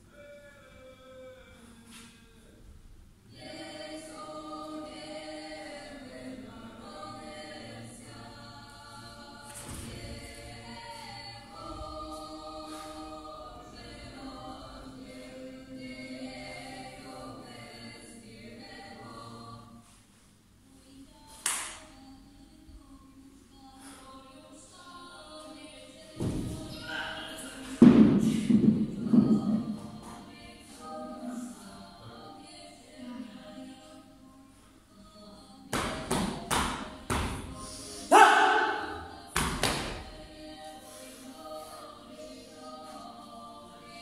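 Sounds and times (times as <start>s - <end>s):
choir singing held chords: 3.2s - 44.0s.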